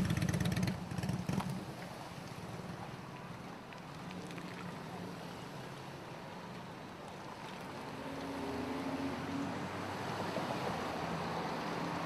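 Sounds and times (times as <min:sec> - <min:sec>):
trucks driving past: 0:00.0 - 0:12.0.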